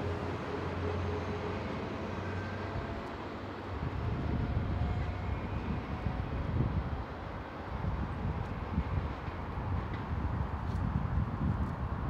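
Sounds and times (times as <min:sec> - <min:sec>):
diesel train engine rumbling: 0:00.0 - 0:11.3.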